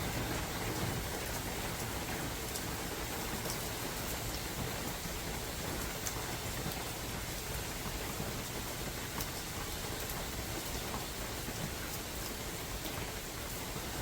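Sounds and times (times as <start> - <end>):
steady rain in forest: 0.0 - 14.0.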